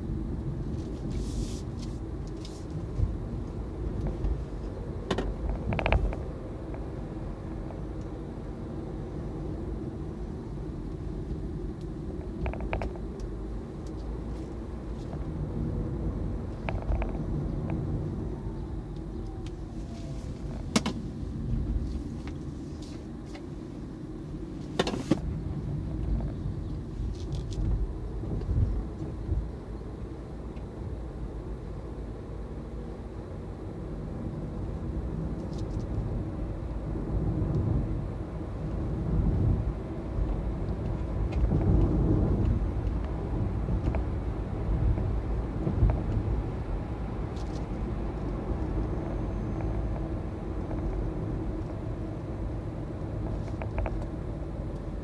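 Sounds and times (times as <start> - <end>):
tyre and road rumble: 0.0 - 30.3, 33.8 - 55.0.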